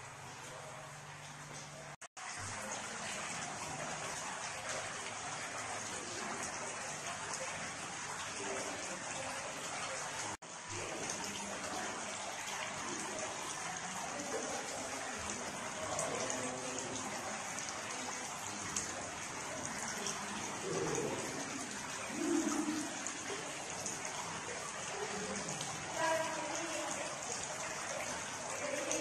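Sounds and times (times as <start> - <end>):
fountain splashing into basin: 0.0 - 29.0.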